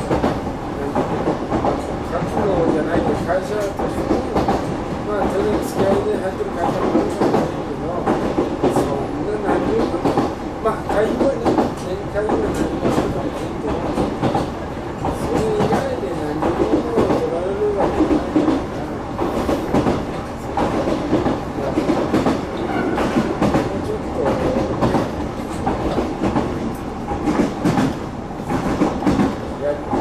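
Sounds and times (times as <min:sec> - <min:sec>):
train wheels rumbling on rail: 0:00.0 - 0:30.0
wheels clacking over rail joints: 0:00.0 - 0:30.0.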